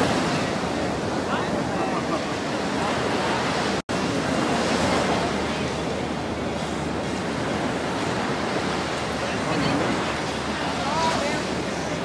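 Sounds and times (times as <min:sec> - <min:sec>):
ocean surf rushing: 0:00.0 - 0:12.0
wind: 0:00.0 - 0:12.0.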